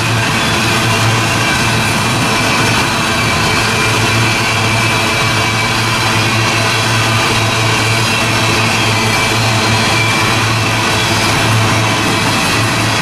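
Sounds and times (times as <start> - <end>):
diesel locomotive engine humming: 0.0 - 13.0.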